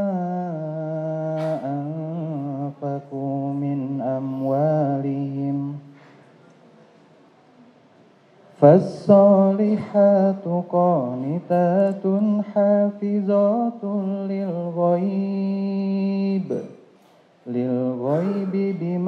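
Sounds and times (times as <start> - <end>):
man chanting into a microphone: 0.0 - 5.9, 8.6 - 16.7, 17.4 - 19.0.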